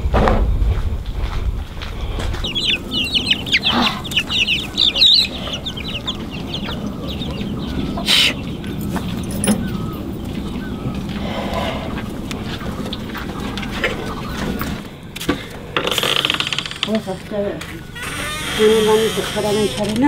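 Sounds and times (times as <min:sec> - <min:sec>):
chickens clucking: 0:01.8 - 0:20.0.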